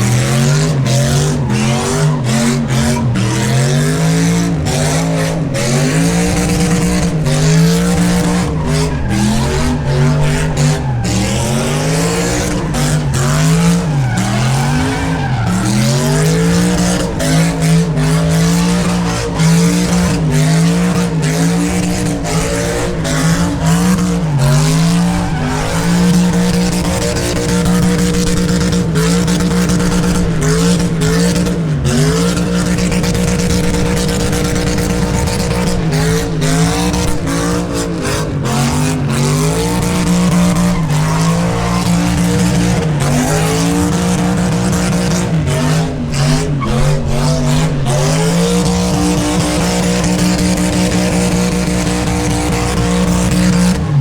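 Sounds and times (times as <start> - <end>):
car engine revving: 0.0 - 54.0
spinning tires hissing: 0.0 - 54.0.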